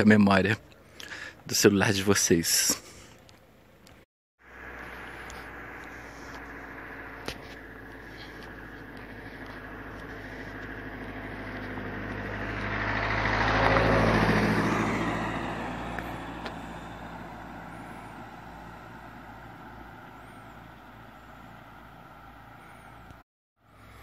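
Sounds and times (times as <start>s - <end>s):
car driving past: 4.4s - 24.0s.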